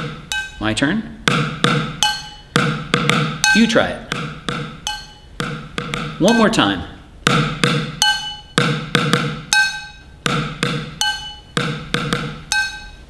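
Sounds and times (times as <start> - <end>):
chopsticks drumming on containers: 0.0 - 13.0.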